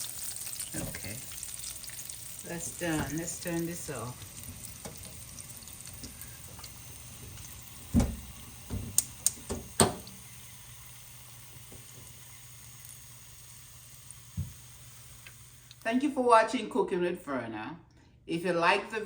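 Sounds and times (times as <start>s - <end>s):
frying oil hissing: 0.0s - 15.9s.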